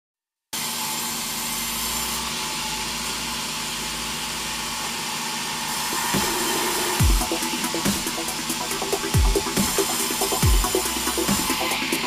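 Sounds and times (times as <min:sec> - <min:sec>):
band saw cutting timber: 0:00.6 - 0:12.0.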